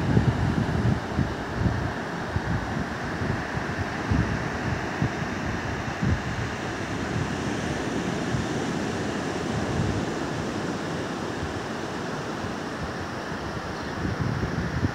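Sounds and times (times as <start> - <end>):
surf breaking on beach: 0.0 - 14.9
wind buffeting microphone: 0.0 - 14.9.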